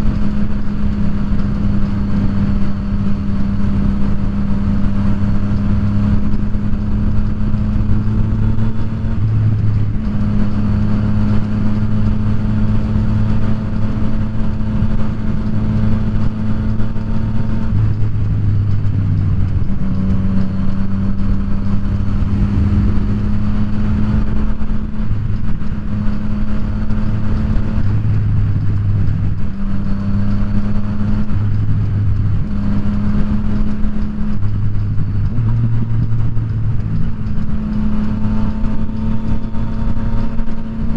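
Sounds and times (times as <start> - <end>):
motorcycle engine cruising: 0.0 - 40.9
wind noise rushing: 0.0 - 40.9.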